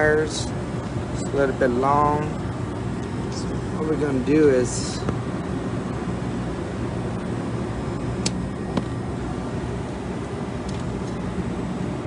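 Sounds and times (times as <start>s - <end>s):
refrigeration equipment humming: 0.0s - 12.0s.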